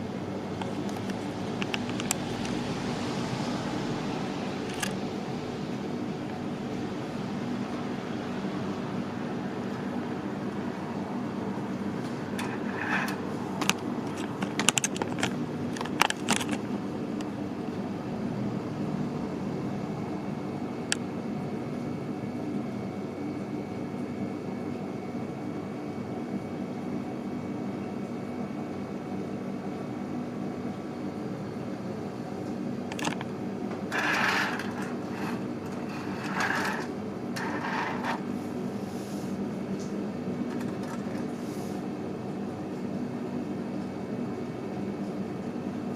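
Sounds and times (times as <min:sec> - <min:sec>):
low machine hum: 0:00.0 - 0:45.9.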